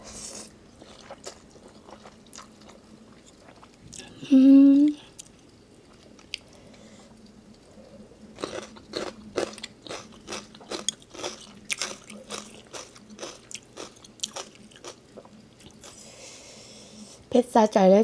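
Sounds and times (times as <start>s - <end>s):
wet chewing of noodles: 0.0s - 4.2s, 5.0s - 16.4s.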